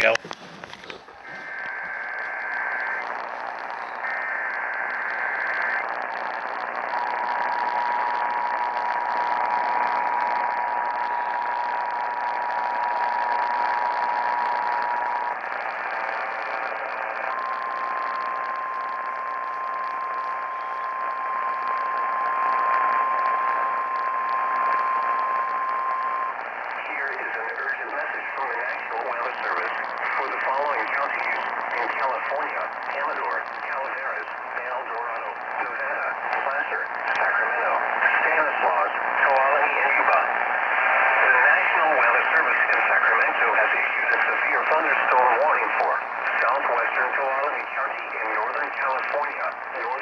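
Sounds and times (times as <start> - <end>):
radio static hiss: 0.0 - 50.0
steady warning tone: 0.0 - 50.0
warbling data tones: 0.0 - 50.0.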